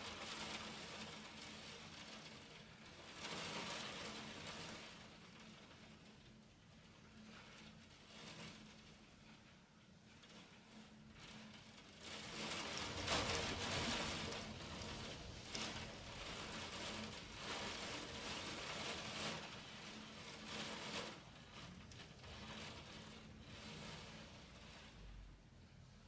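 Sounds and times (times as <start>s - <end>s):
hail pelting against window: 0.0s - 25.4s.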